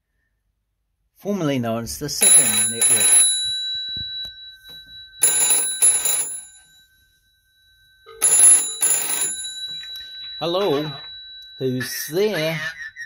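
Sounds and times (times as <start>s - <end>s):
telephone bells ringing: 2.2s - 13.0s.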